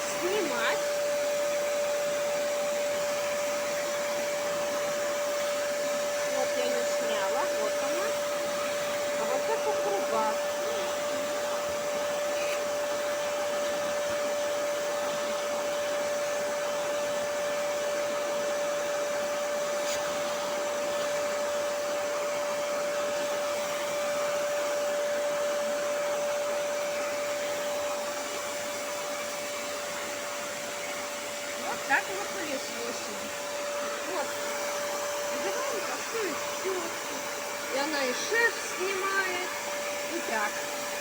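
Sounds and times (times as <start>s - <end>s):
vacuum cleaner whining: 0.0s - 41.0s.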